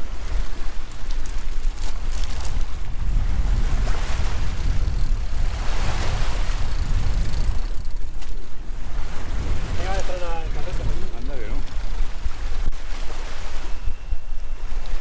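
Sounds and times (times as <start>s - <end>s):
sea surf washing against shore: 0.0s - 15.0s
wind rumble on microphone: 0.0s - 15.0s.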